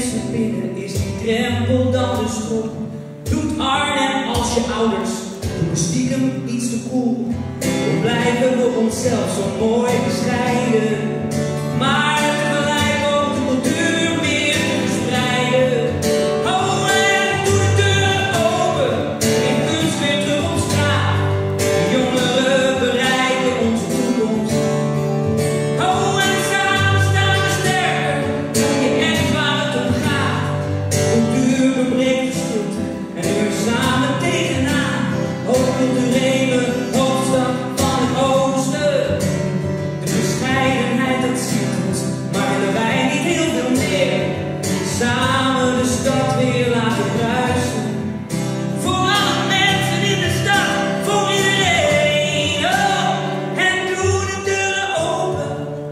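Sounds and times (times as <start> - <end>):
acoustic guitar strumming: 0.0 - 55.9
man singing a slow song: 0.0 - 55.9.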